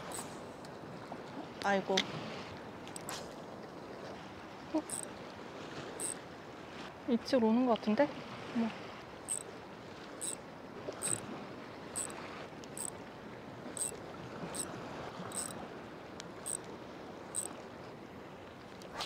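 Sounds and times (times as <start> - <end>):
sea water washing: 0.0 - 6.6, 8.2 - 17.8.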